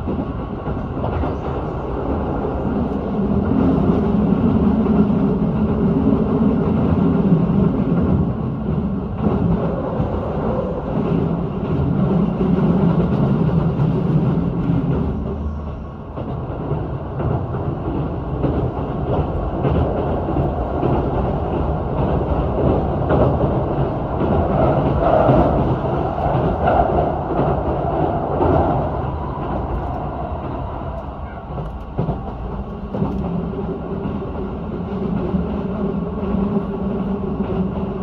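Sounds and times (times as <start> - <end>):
rail clicks: 0.0 - 38.0
train running on rails: 0.0 - 38.0.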